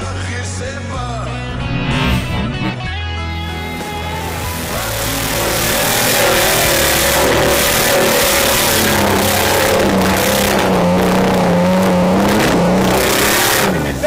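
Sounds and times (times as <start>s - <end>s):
vehicle engine revving loudly: 1.4s - 2.8s, 4.0s - 14.0s.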